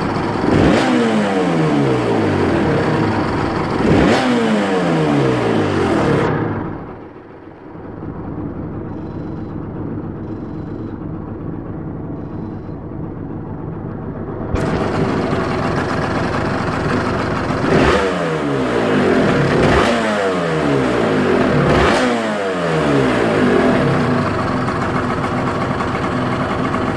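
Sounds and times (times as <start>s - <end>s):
two-stroke engine revving: 0.0s - 7.8s, 8.7s - 26.9s.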